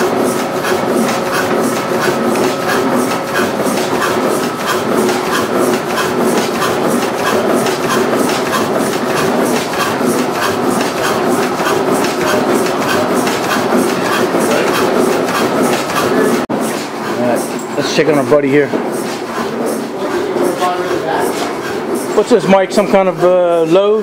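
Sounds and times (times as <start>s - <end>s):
stationary engine clattering: 0.0s - 24.0s.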